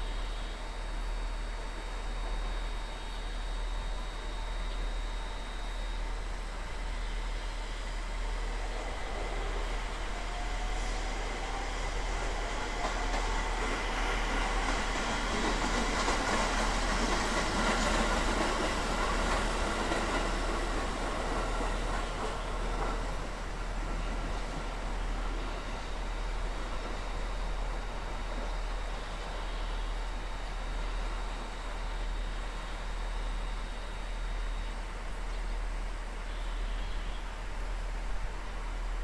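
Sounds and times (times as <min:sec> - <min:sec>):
train passing by: 0:00.0 - 0:39.0.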